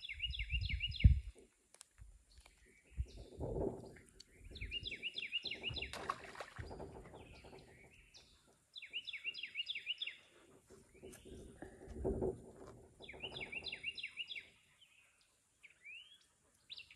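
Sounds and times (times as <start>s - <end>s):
songbird chirping: 0.0s - 16.9s
rustling near microphone: 0.6s - 14.6s.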